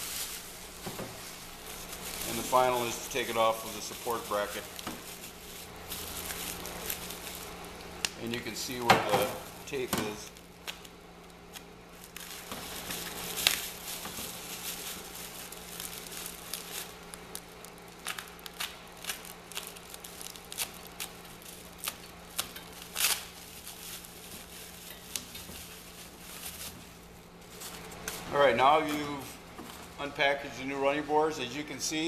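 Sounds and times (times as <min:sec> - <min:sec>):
plastic packaging crinkling: 0:00.0 - 0:30.7
low steady hum: 0:00.0 - 0:32.0.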